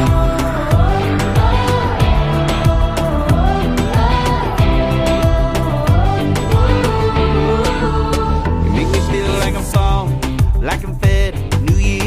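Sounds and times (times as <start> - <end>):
pop song with drum beat: 0.0 - 12.0.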